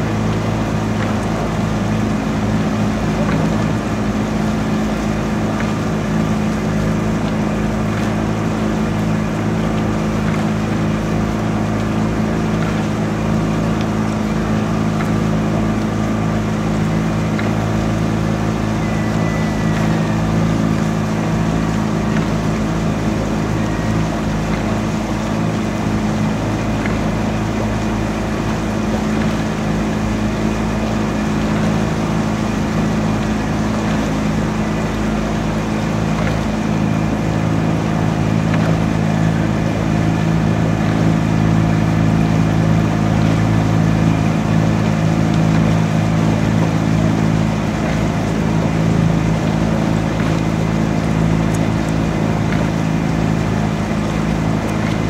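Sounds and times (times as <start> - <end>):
outboard motor humming: 0.0 - 55.0.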